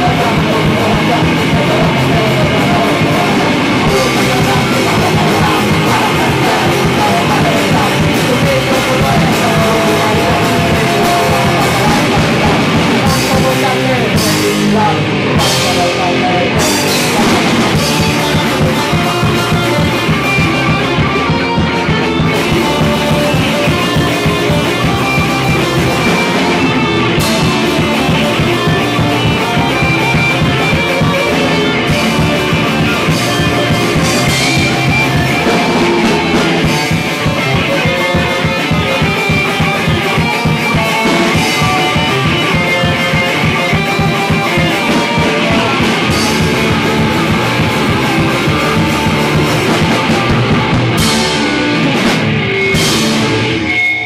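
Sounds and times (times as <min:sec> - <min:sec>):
distorted electric guitars: 0:00.0 - 0:54.0
drums: 0:00.0 - 0:54.0.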